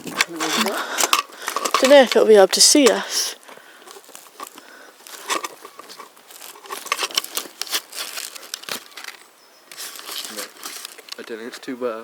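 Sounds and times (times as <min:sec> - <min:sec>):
dry leaves and twigs crunching: 0:00.0 - 0:11.7.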